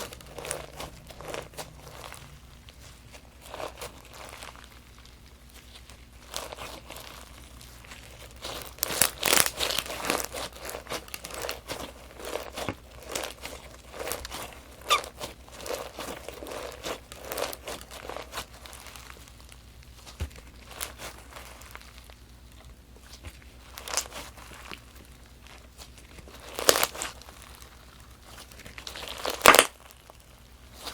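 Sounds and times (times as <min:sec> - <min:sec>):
crunchy slime crackling: 0:00.0 - 0:30.9.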